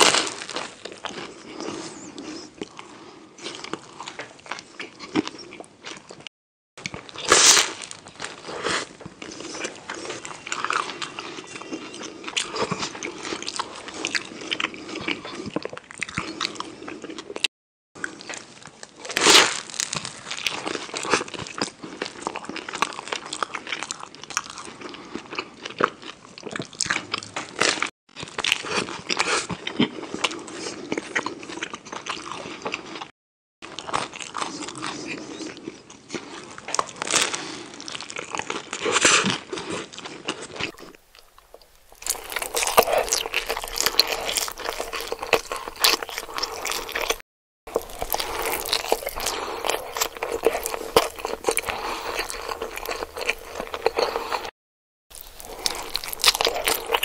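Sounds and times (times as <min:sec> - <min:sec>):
crunchy bites and chewing: 0:00.0 - 0:57.0.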